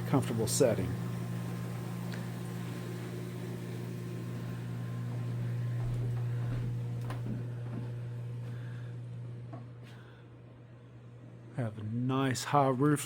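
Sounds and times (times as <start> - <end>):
machine electric hum: 0.0 - 13.0.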